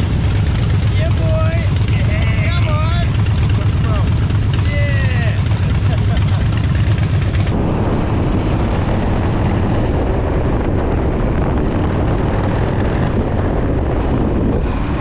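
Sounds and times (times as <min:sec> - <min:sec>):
motorcycle engine rumble: 0:00.0 - 0:15.0
wind rush on microphone: 0:00.0 - 0:15.0.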